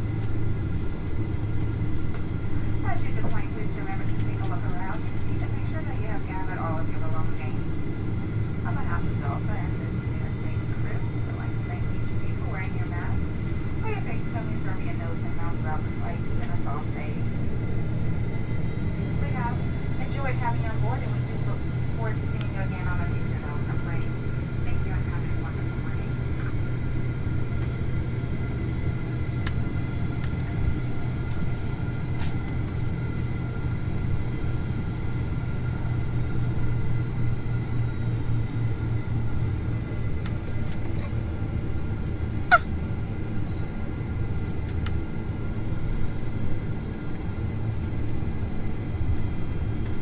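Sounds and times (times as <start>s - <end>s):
aircraft cabin rumble: 0.0s - 50.0s.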